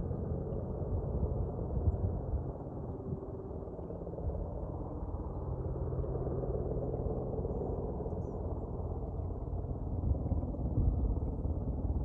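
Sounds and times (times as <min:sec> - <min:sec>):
distant helicopter rumble: 0:00.0 - 0:12.0.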